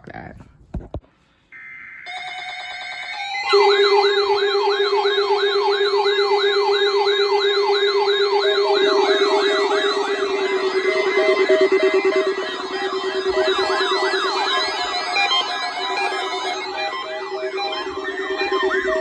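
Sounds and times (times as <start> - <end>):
steady electronic alarm tones: 1.4 - 19.0
siren sweep: 1.5 - 19.0
pulsing beep: 1.6 - 19.0
high warble: 1.8 - 19.0
steady low tone: 3.5 - 19.0.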